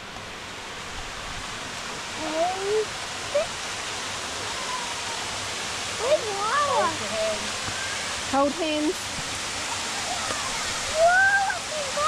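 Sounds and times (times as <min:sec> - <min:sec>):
waterfall rushing into rock pool: 0:00.0 - 0:12.0.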